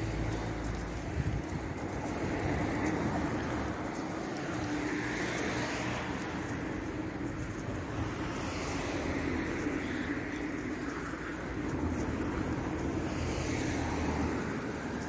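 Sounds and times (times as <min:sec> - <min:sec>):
passing vehicles hum: 0:00.0 - 0:15.0.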